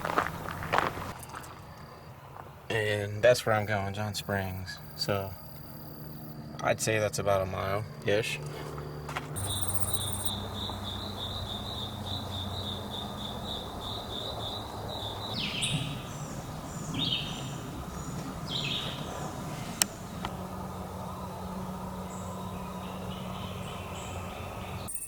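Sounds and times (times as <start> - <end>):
bird calls: 0.0 - 25.0
insect chirping: 0.0 - 25.0.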